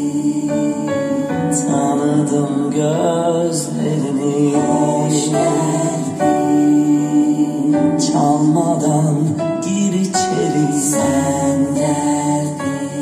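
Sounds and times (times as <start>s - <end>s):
music with singing from speakers: 0.0s - 13.0s.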